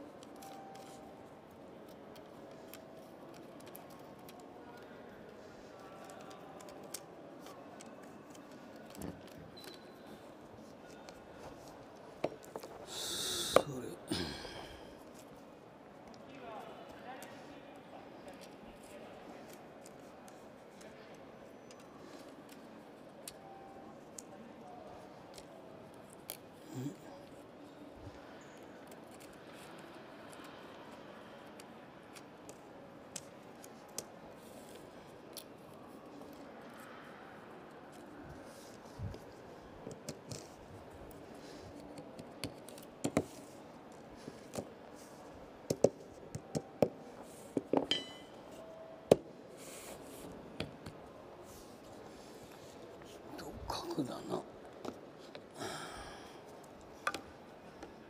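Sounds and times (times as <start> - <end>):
room hum: 0.0 - 58.0.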